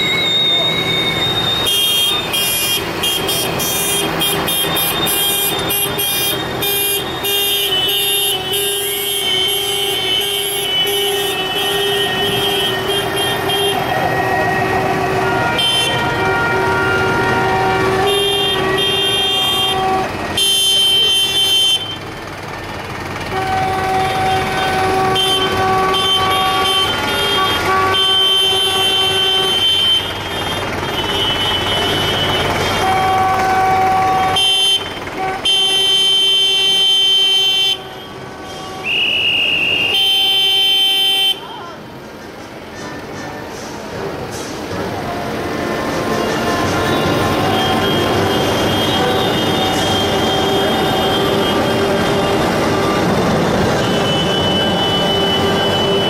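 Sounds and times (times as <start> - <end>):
horns honking in long blasts: 0.0 - 41.9, 44.9 - 56.0
tractor engines running: 0.0 - 56.0.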